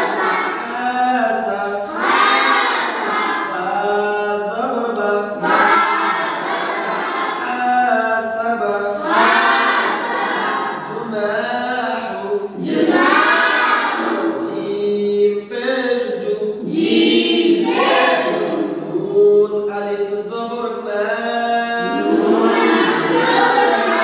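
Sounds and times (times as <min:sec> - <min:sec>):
boys chanting in unison: 0:00.0 - 0:24.0.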